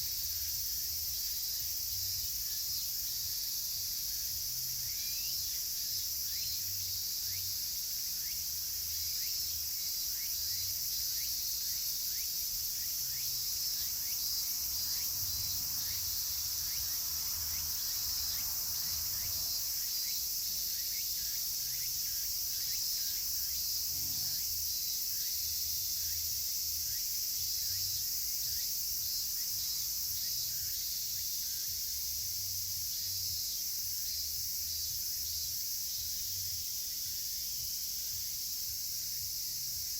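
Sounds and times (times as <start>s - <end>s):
cicada rapid repeated notes: 0.0s - 39.9s
cicadas droning: 0.0s - 39.9s.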